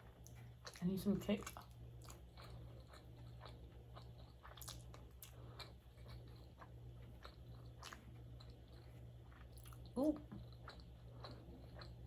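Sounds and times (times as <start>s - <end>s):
chewing with soft crunches: 0.0s - 12.0s
low steady hum: 0.0s - 12.0s.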